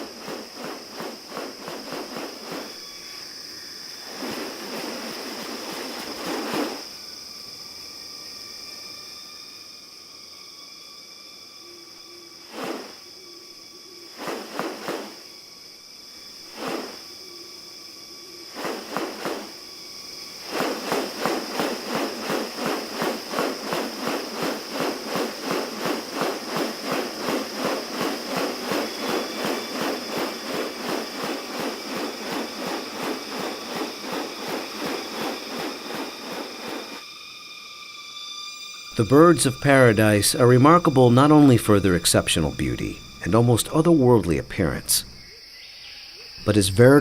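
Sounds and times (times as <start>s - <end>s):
high-pitched insect drone: 0.0s - 47.0s
short sharp insect notes: 0.0s - 47.0s.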